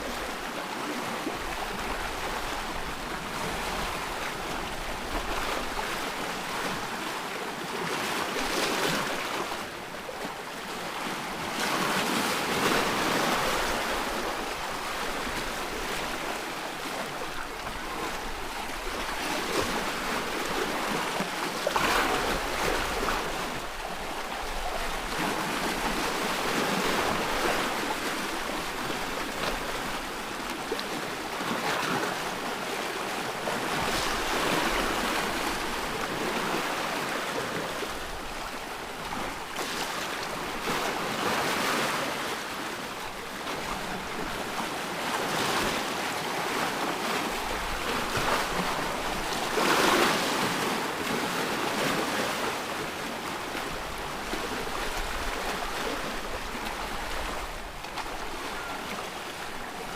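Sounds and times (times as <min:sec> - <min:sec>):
ocean surf: 0:00.0 - 0:59.9.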